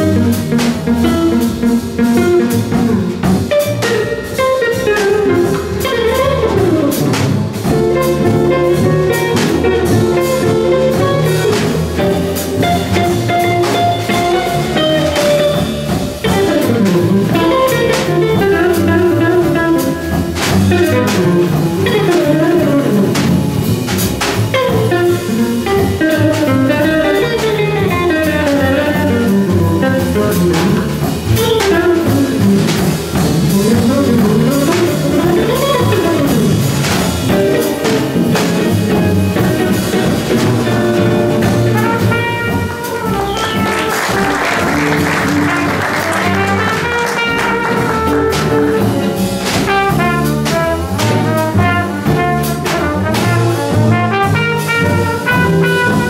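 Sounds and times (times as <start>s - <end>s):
jazz combo playing live: 0.0s - 56.0s.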